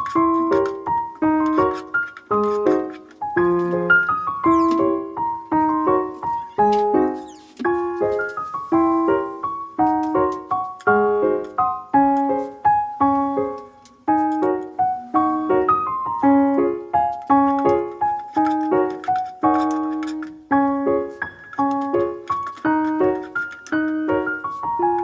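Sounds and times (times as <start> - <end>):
piano playing repeated notes: 0.0 - 25.0.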